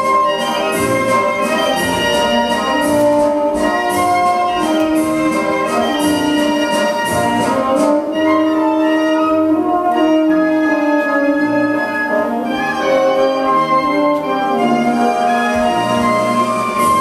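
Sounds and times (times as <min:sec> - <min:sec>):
orchestral music: 0:00.0 - 0:17.0.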